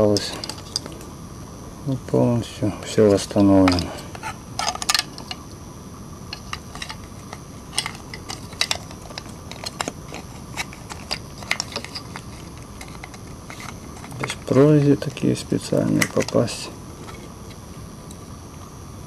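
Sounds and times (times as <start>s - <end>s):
steady faint hiss: 0.0s - 19.0s.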